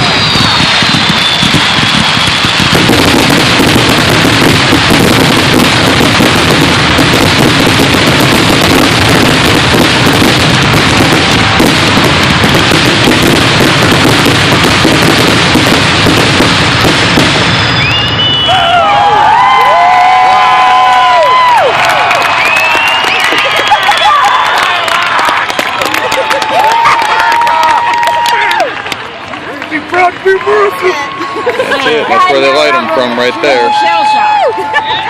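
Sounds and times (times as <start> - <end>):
crowd cheering and whistling: 0.0 - 14.0, 16.9 - 35.0
fireworks bursting and crackling: 0.0 - 35.0.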